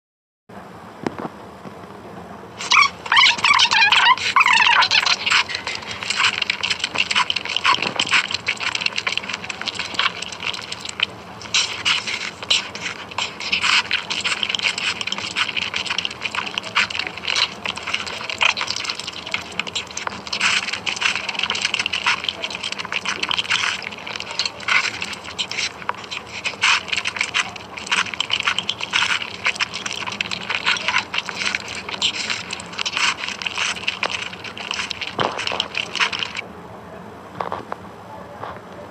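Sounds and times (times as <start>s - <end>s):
close chewing and mouth noises: 2.6s - 36.4s.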